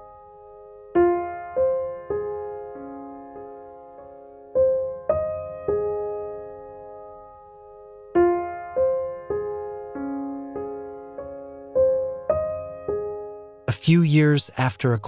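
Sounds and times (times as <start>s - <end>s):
soft solo piano: 0.0s - 13.6s.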